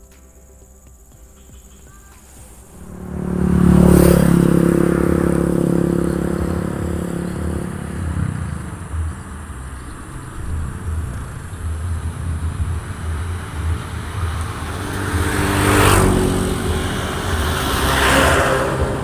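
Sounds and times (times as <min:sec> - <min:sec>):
road vehicles passing by: 0:00.0 - 0:19.0
steady low rumble: 0:00.0 - 0:19.0.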